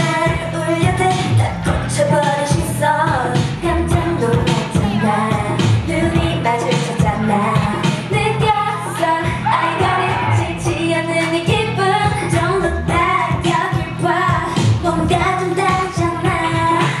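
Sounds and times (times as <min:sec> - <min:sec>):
dance beat and bass: 0:00.0 - 0:17.0
female voices singing: 0:00.0 - 0:17.0.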